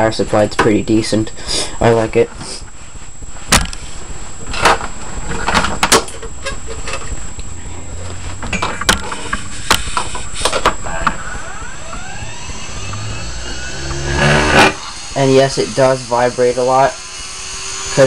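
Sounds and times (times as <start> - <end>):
motor spinning up with whine: 0.9 - 18.0.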